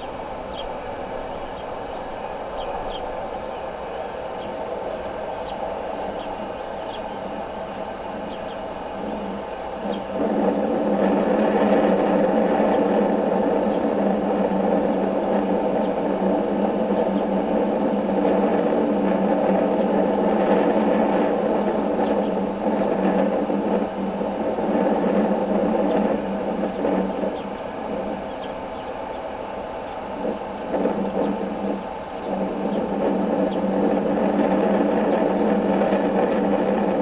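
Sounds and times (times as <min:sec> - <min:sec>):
mechanical hum with fixed tones: 0:00.0 - 0:37.0.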